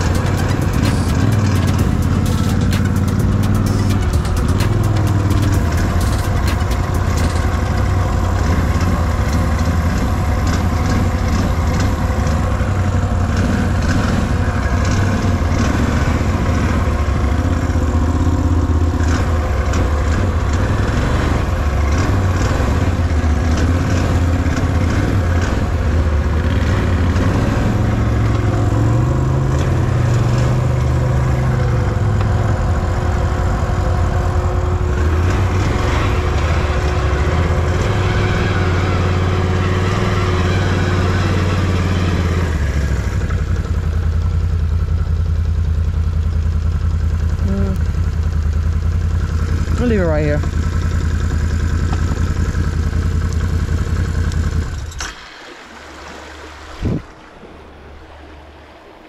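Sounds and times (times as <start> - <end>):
atv engine revving: 0.0 - 57.1.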